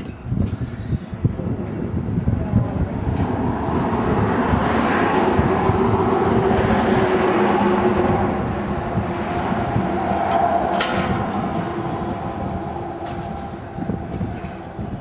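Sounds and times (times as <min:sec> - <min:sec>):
vehicle passing on road: 0:02.2 - 0:15.0.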